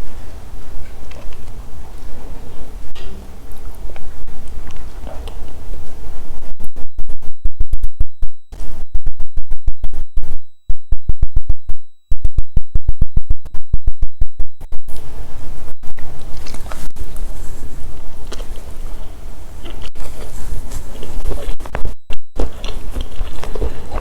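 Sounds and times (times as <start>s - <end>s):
microphone electrical buzzing crackle: 0.0s - 24.0s
thin high whine: 0.0s - 24.0s.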